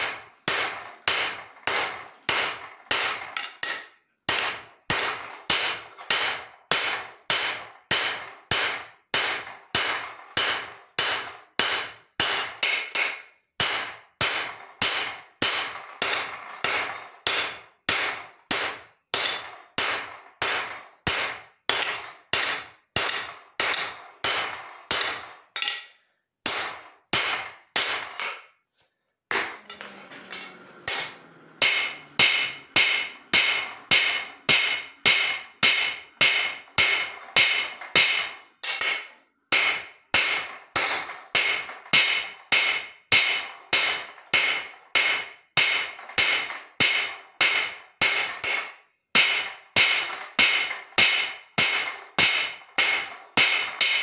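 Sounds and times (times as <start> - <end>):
hammer forging steel on anvil: 0.0 - 28.6, 29.3 - 54.0.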